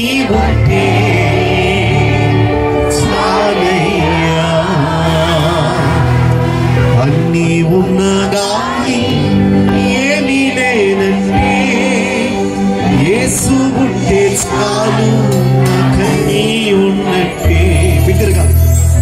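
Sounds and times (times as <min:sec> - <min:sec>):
held accompaniment chords: 0:00.0 - 0:19.0
man singing into a microphone: 0:00.0 - 0:19.0.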